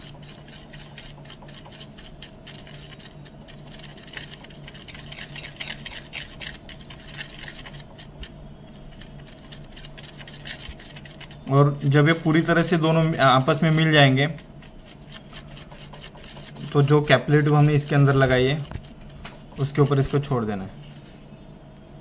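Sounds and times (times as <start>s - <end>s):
epoxy scraping and rubbing strokes: 0.0s - 21.4s.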